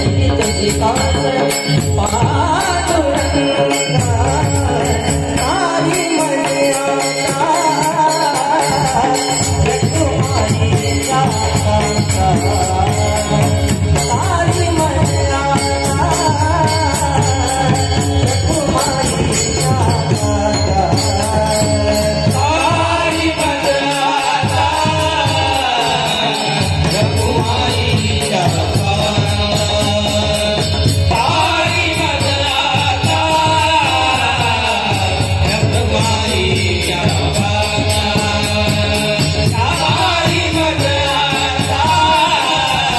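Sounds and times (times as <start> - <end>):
jingling small cymbals: 0.0 - 42.9
man singing: 0.0 - 42.9
steady drum beat: 0.0 - 42.9.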